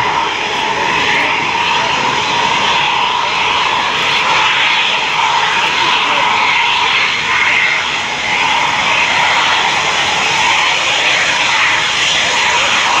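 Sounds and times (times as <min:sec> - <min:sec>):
jet engines hissing and whining: 0:00.0 - 0:13.0.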